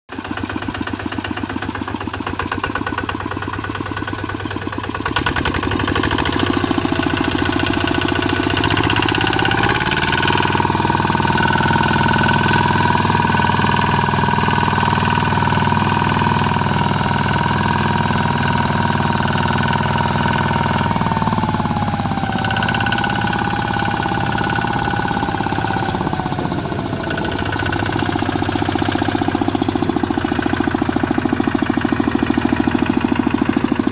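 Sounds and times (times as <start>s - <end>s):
diesel engine chugging: 0.1s - 33.9s.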